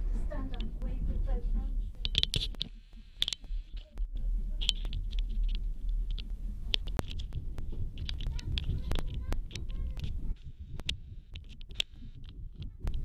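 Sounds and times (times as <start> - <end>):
light clicks and rattles: 0.2 - 13.0.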